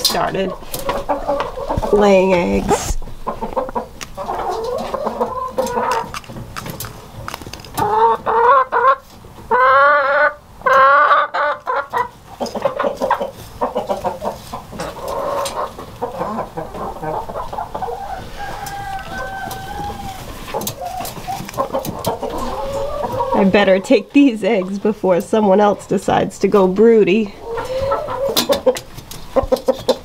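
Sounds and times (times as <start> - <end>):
hen clucking: 0.0 - 7.1, 7.7 - 30.0.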